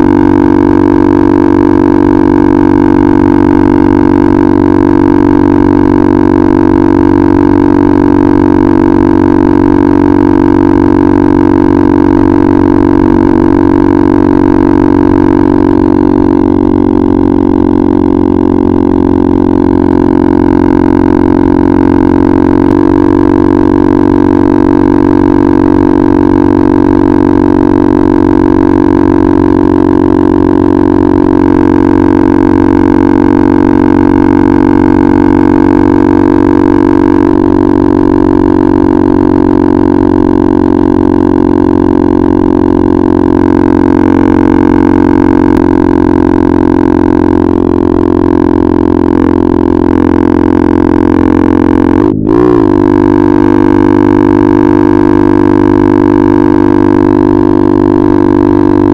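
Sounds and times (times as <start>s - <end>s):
motorcycle engine droning: 0.0s - 58.9s.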